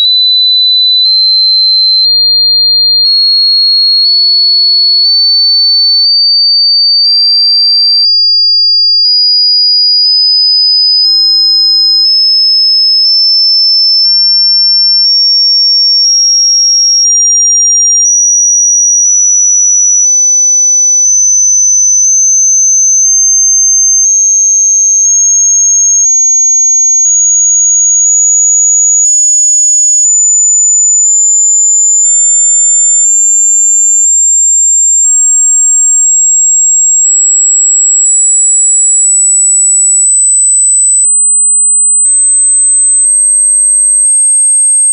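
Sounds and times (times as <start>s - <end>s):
sine test tone stepping up: 0.0s - 44.9s.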